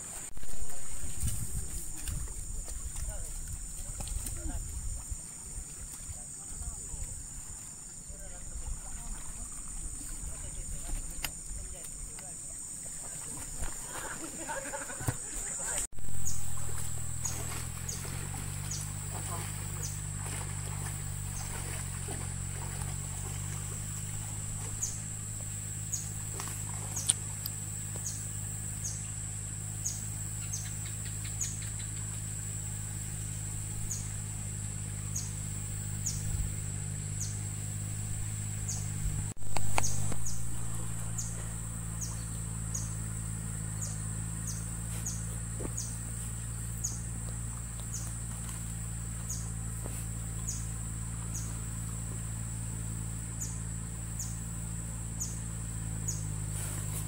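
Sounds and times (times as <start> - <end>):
low hum: 0.0 - 57.0
high-pitched insect drone: 0.1 - 57.0.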